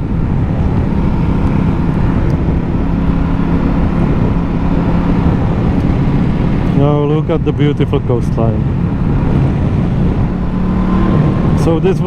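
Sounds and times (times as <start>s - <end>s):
motorcycle engine drone: 0.0s - 12.0s
wind and road noise: 0.0s - 12.0s.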